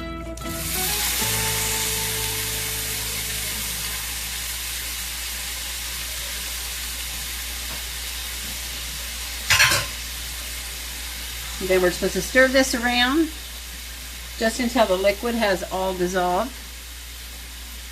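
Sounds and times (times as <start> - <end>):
beets sizzling in syrup: 0.4 - 17.9.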